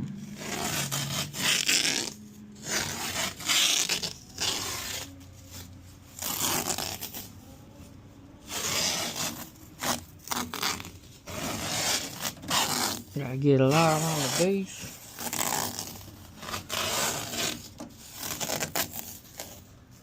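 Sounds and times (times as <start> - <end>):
adhesive tape ripping off roll: 0.2 - 7.3, 8.4 - 19.6.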